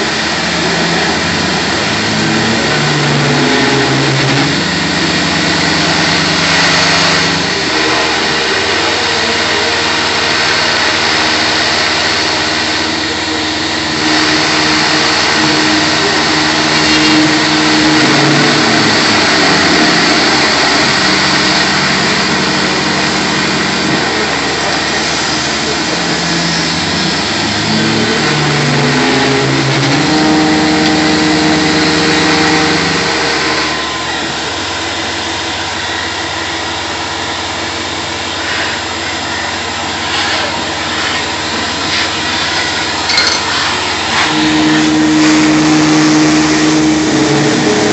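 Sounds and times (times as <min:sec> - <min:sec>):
axis motors whining: 0:00.0 - 0:47.9
milling machine cutting plastic: 0:00.0 - 0:47.9
shop vacuum running: 0:00.0 - 0:47.9
spindle running: 0:00.0 - 0:47.9.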